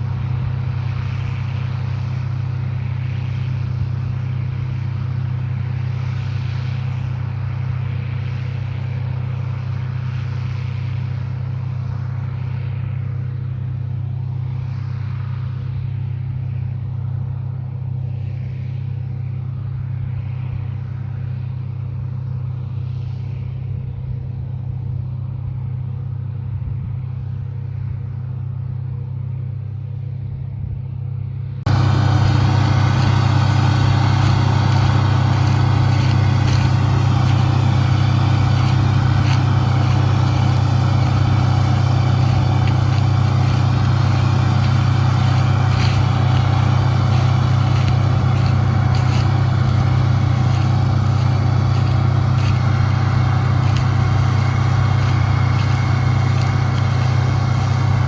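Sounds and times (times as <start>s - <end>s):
farm machine engine droning: 0.0s - 30.2s, 31.4s - 58.0s.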